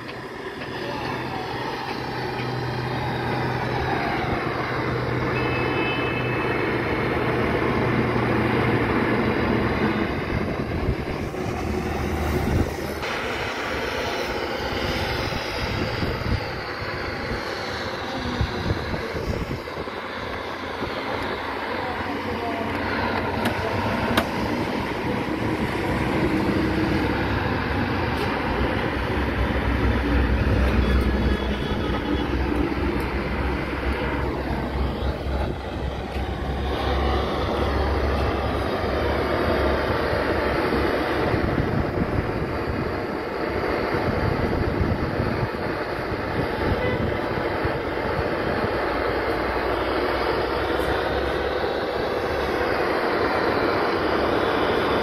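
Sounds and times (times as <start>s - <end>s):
gas torch roaring: 0.0s - 55.0s.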